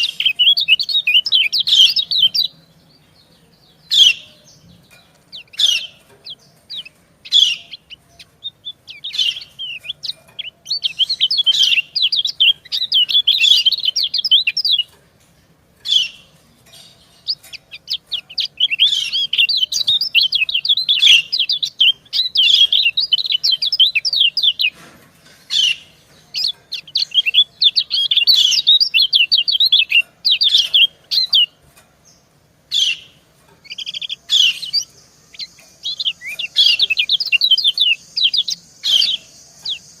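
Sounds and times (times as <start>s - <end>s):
bird chirping: 0.0s - 40.0s.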